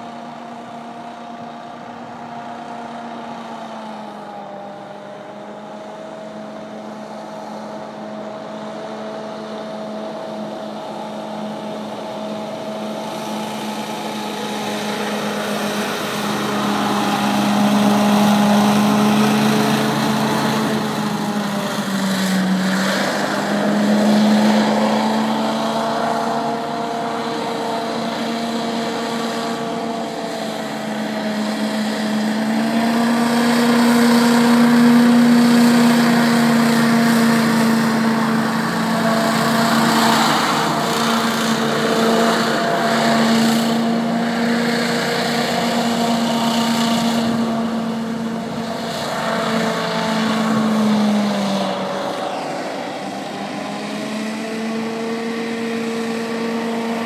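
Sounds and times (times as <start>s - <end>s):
hovercraft engine humming: 0.0s - 57.0s.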